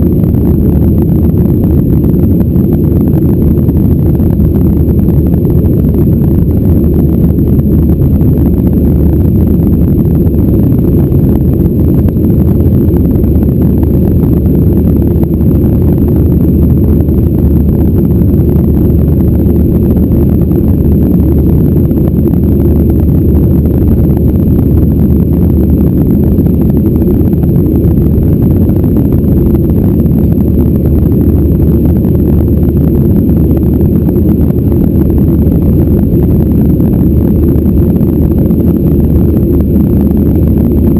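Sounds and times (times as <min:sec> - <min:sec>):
jet engines roaring in cabin: 0:00.0 - 0:40.9.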